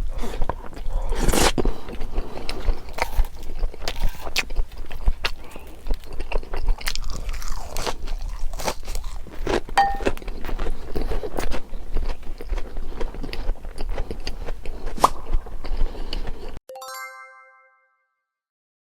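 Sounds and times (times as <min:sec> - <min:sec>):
person chewing crunchy food: 0:00.0 - 0:16.6.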